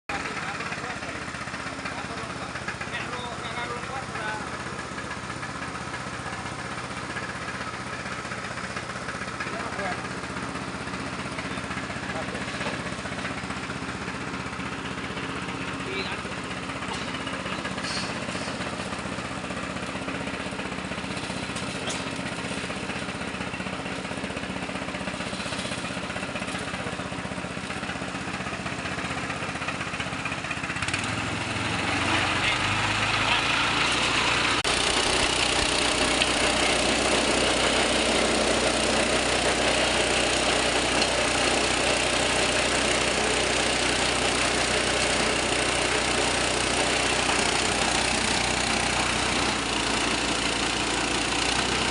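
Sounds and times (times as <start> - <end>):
grinding machine running: 0.1 - 51.9.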